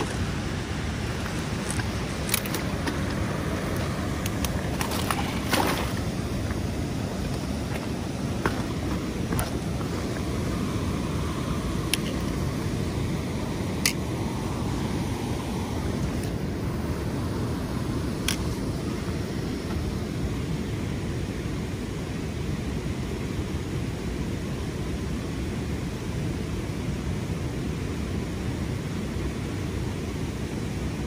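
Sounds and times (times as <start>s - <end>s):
wind and rushing water: 0.0s - 31.0s.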